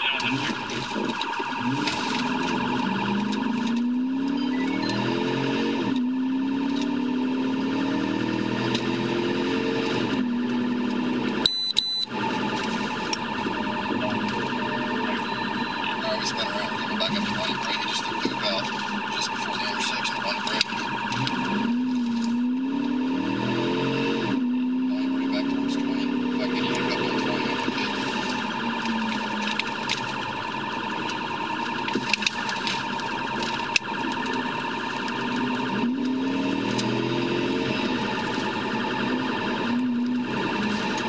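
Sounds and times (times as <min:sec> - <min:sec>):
car engine accelerating: 0:00.0 - 0:41.0
police siren: 0:00.0 - 0:41.0.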